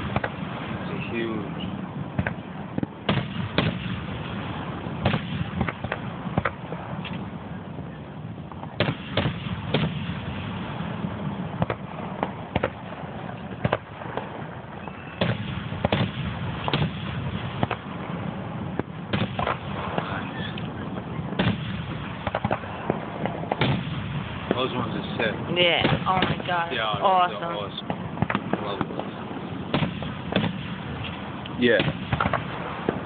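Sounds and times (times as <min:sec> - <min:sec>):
fireworks bursting: 0:00.0 - 0:33.0
low background noise: 0:00.0 - 0:33.0.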